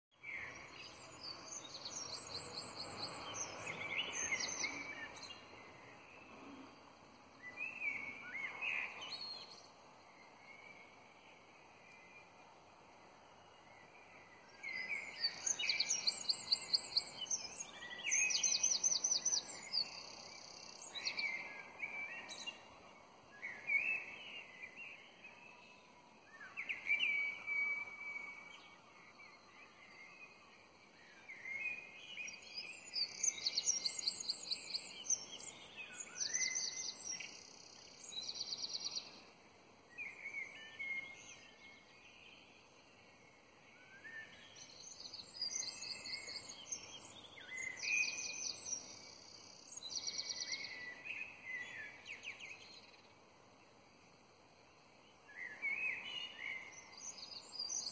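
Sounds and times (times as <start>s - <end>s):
songbirds singing: 0.1s - 57.9s
faint steady background noise: 0.2s - 57.9s.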